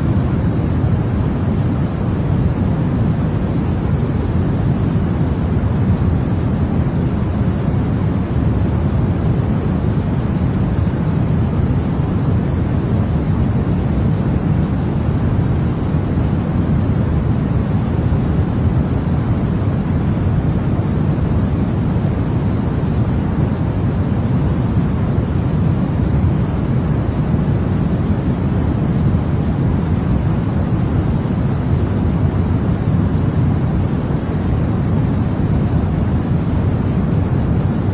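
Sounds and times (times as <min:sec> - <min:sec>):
white noise hiss: 0:00.0 - 0:37.9.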